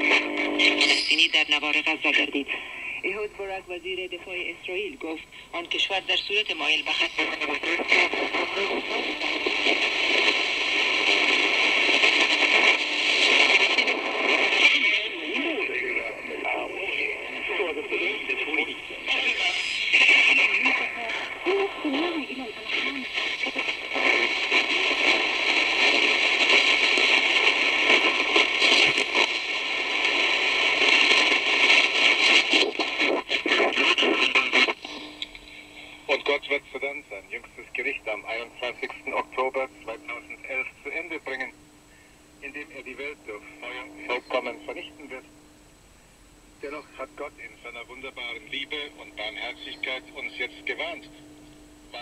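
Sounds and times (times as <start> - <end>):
shortwave radio static and hiss: 0.0 - 52.0.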